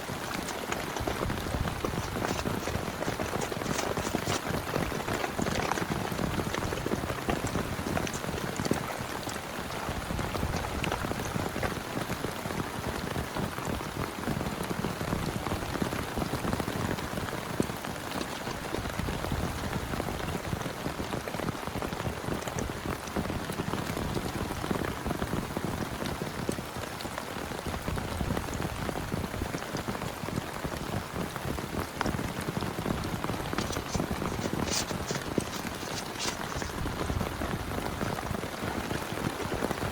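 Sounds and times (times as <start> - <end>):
heavy rain falling: 0.0 - 39.9
raindrops ticking on a surface: 0.0 - 39.9.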